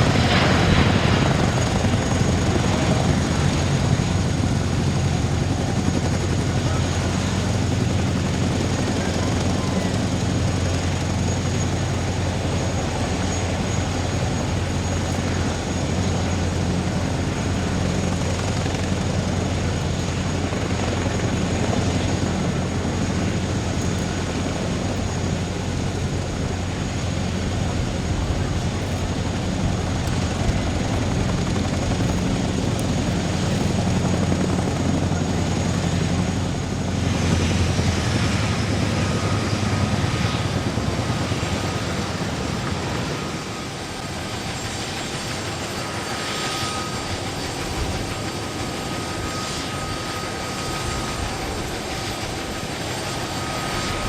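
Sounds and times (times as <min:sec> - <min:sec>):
high engine whine: 0:00.0 - 0:54.0
jet engines roaring: 0:00.0 - 0:54.0.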